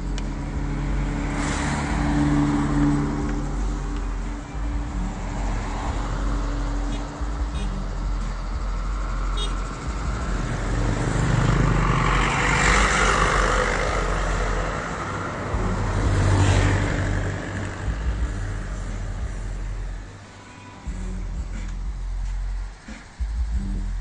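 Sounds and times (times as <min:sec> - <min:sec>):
low traffic rumble: 0:00.0 - 0:24.0
vehicles passing: 0:00.0 - 0:24.0.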